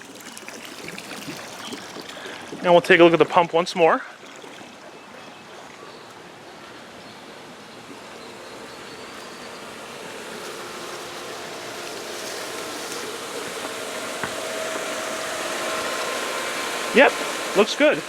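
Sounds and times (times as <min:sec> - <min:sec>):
pump motor hum: 0:00.0 - 0:03.5, 0:04.1 - 0:18.0
pool pump water rush: 0:00.0 - 0:18.0.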